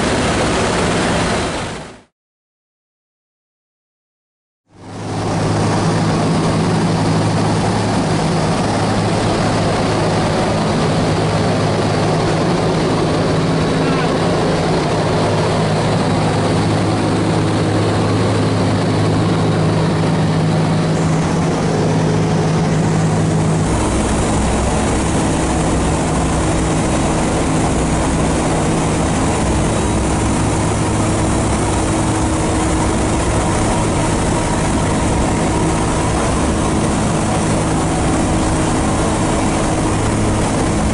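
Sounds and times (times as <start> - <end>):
rush of air noise: 0.0 - 2.0, 4.8 - 40.9
propeller aircraft engines droning: 0.0 - 2.1, 4.7 - 40.9
deeper hum: 4.8 - 40.9.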